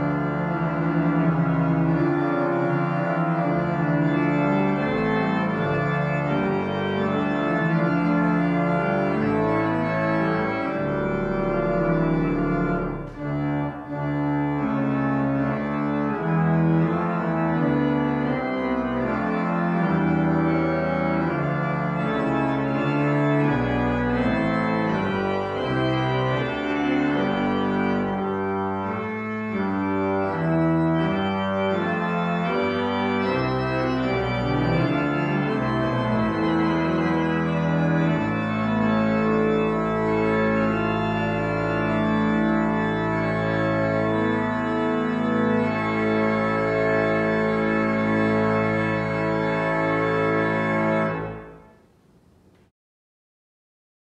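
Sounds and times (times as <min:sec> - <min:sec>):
deep bass organ note: 0:00.0 - 0:51.5
church organ chords: 0:00.0 - 0:52.2.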